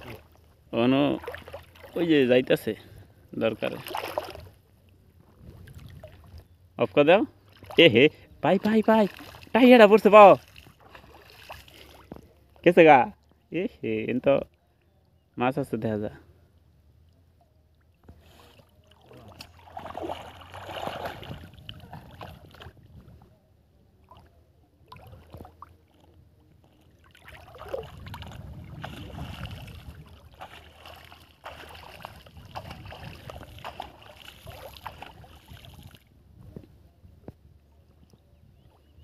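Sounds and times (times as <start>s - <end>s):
water sloshing from wading: 0.0s - 13.5s, 16.3s - 36.2s.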